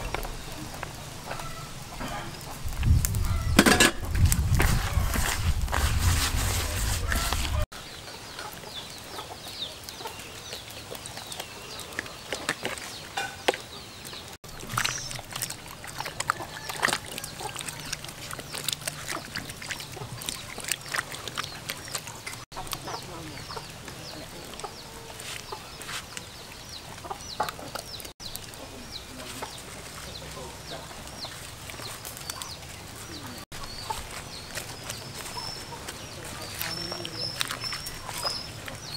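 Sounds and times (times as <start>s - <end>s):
chickens clucking: 0.0s - 5.1s, 7.0s - 38.9s.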